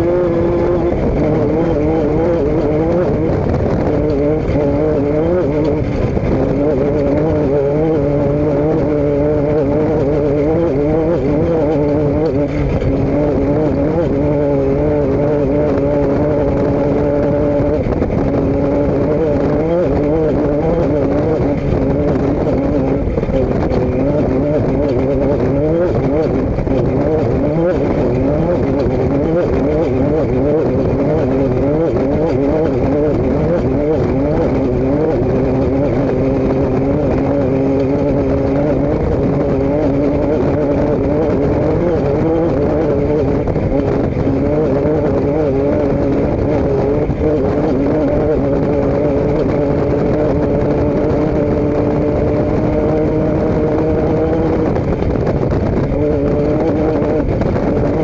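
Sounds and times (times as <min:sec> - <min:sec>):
road noise: 0:00.0 - 0:58.0
vehicle engine running: 0:00.0 - 0:58.0.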